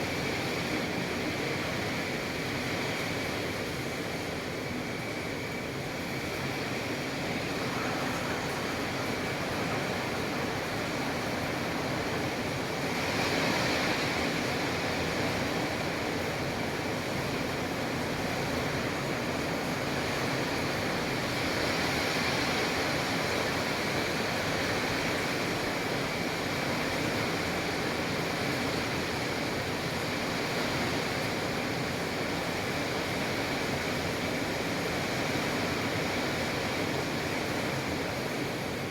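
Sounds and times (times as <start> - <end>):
heavy rain in strong wind: 0.0 - 38.9.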